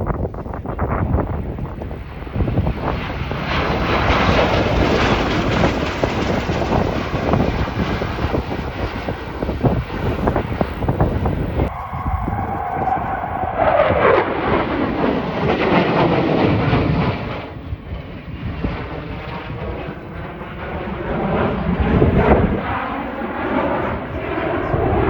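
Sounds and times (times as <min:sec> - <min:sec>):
military aircraft flying past: 0:00.4 - 0:25.0.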